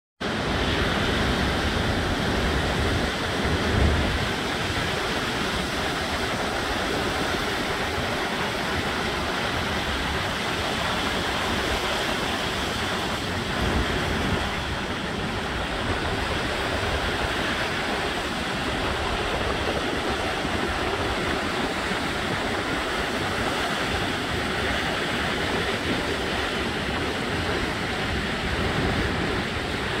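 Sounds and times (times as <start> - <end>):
surf breaking on beach: 0.2 - 30.0
wind rumbling on microphone: 0.2 - 30.0.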